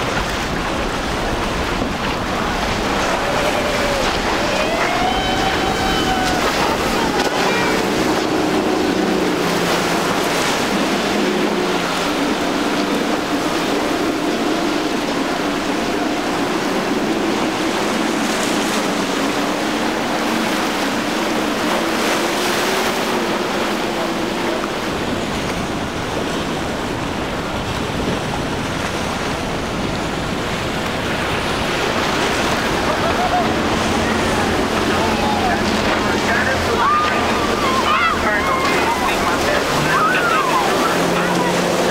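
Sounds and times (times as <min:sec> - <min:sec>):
outboard motor drone: 0:00.0 - 0:41.9
rush of water and wind: 0:00.0 - 0:41.9.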